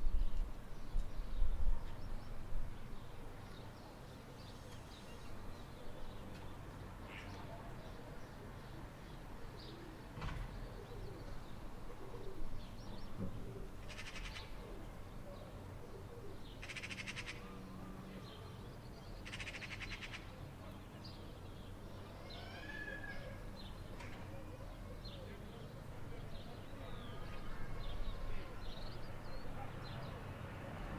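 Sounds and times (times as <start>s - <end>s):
birds chirping: 0.2s - 30.5s.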